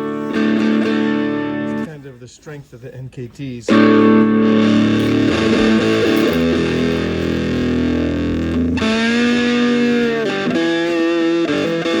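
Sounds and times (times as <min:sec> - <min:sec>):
fuzz electric guitar notes: 0:00.0 - 0:01.8, 0:03.7 - 0:12.0.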